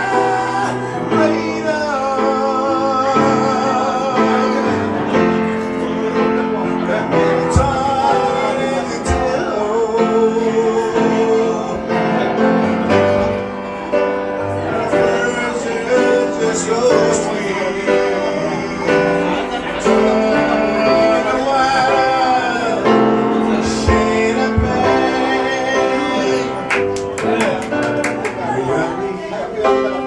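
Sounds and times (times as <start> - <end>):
song with singing voice: 0.0 - 30.0.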